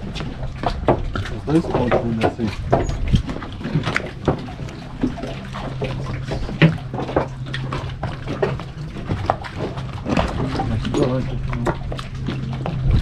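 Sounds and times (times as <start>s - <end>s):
steady low hum: 0.0s - 13.0s
water sloshing and splashing: 0.0s - 13.0s.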